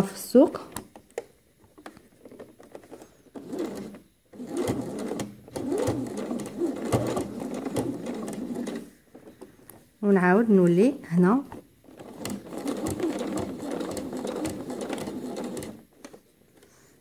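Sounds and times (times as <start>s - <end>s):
sewing machine stitching: 1.7s - 9.8s, 11.3s - 16.9s.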